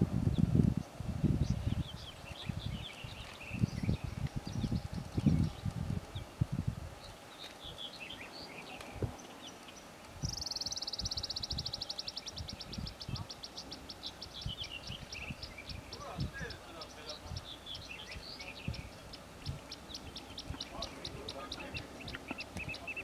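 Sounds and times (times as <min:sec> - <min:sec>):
wind gusting on microphone: 0:00.0 - 0:23.0
birds chirping: 0:00.3 - 0:23.0.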